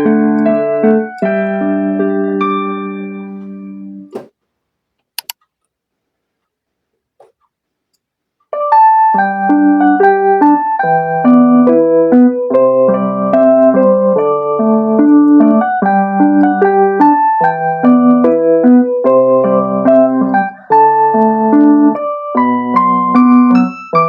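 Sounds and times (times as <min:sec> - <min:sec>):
electric piano keyboard chords: 0:00.0 - 0:04.3, 0:08.5 - 0:24.0.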